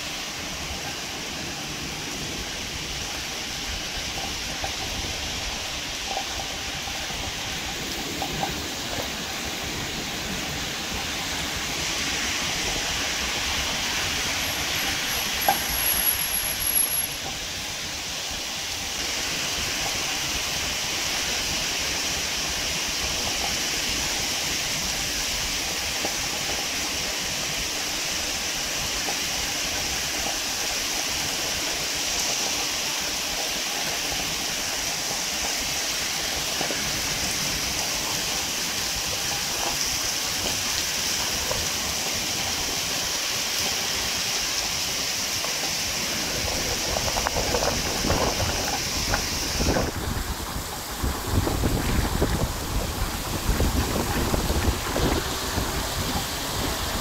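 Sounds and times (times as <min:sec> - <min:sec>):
heavy rain on pavement: 0:00.0 - 0:57.0.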